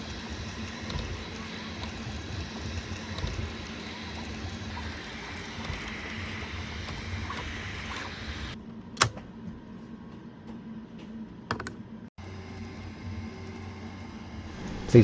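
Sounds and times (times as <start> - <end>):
mechanical hum with hiss: 0.0 - 15.0.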